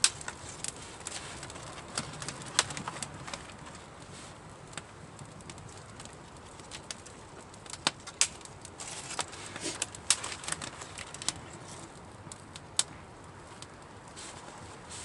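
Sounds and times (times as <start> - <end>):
campfire crackling: 0.0 - 15.0
fire popping sharply: 0.0 - 15.0.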